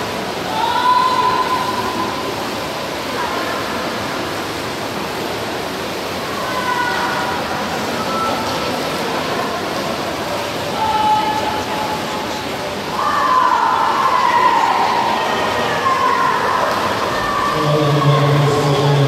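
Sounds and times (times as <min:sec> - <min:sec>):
crowd noise: 0:00.0 - 0:19.0.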